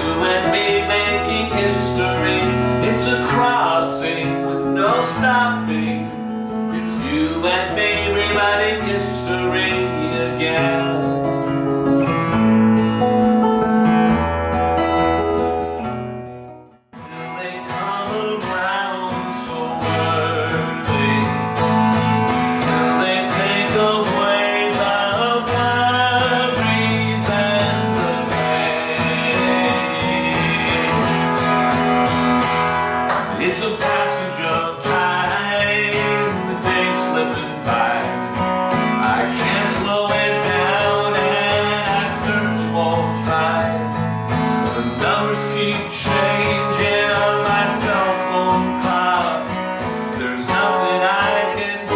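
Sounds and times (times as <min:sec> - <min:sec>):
acoustic guitar music: 0:00.0 - 0:51.9
plucked guitar: 0:00.0 - 0:51.9.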